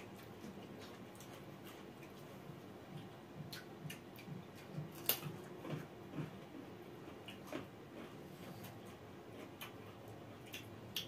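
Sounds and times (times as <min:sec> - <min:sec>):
chewing and lip smacks: 0:00.0 - 0:11.0.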